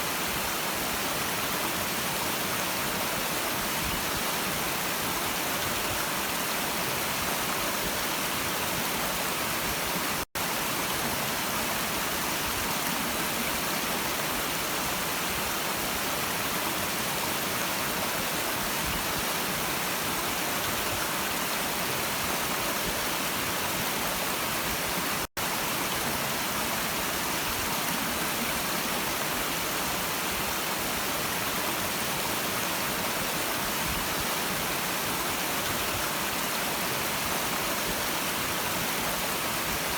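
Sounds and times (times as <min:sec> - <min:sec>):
stream water rushing and babbling: 0:00.0 - 0:39.9.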